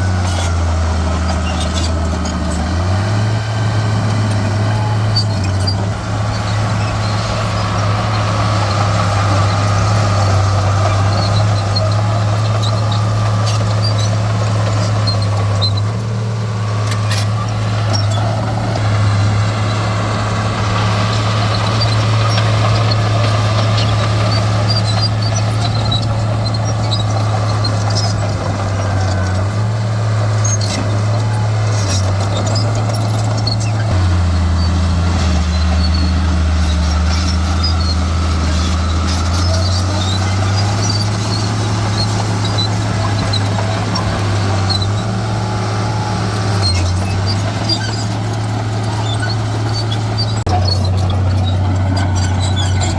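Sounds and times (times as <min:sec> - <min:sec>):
diesel earthmoving machinery running: 0:00.0 - 0:52.9.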